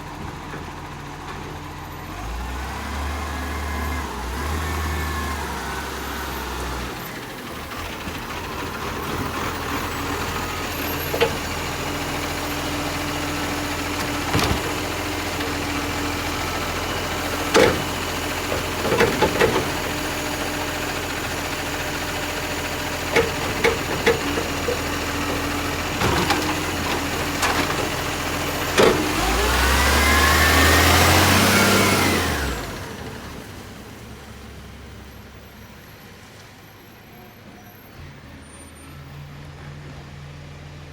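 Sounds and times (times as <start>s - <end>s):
garbage truck engine running: 0.0s - 40.9s.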